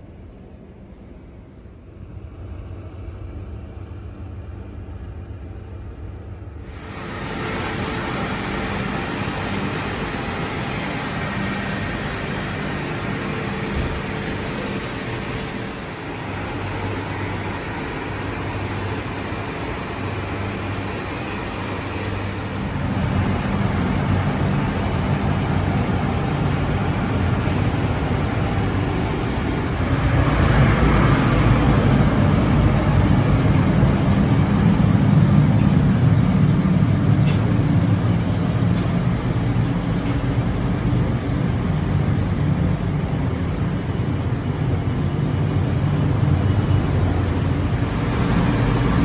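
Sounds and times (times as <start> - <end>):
ship machinery drone: 0.0 - 49.0.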